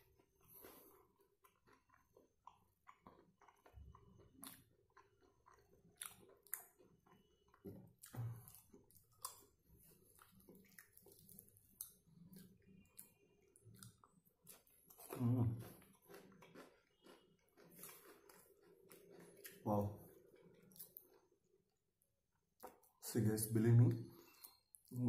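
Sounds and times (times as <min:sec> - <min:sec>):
chewing crispy fried chicken: 0:00.0 - 0:21.8.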